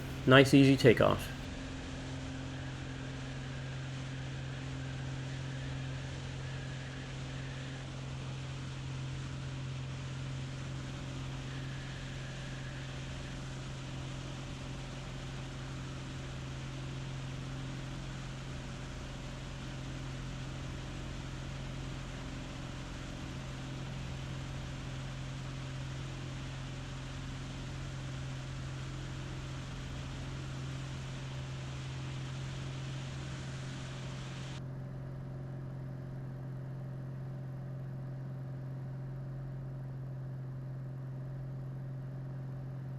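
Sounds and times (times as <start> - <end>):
airplane engine and propeller droning: 0.0 - 34.6.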